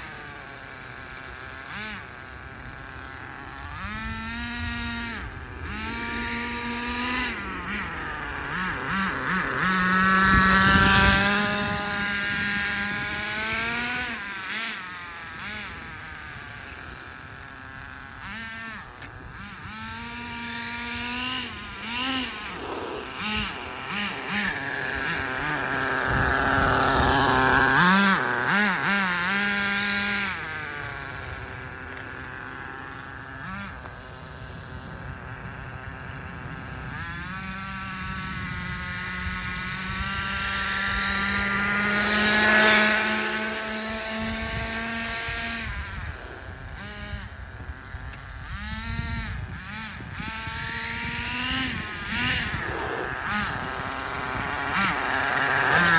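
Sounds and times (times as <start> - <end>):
rc truck engine revving: 0.0 - 55.9.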